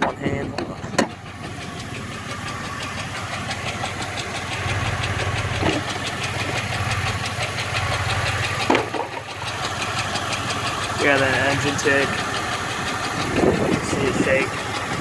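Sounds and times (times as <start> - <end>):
car engine idling rough: 0.0 - 15.0.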